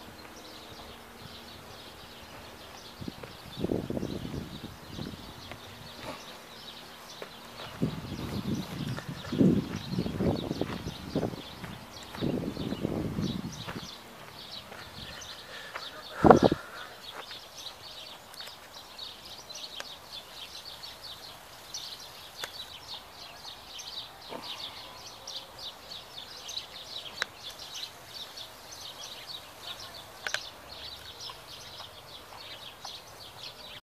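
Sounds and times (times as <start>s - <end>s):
small birds chirping: 0.0s - 33.8s.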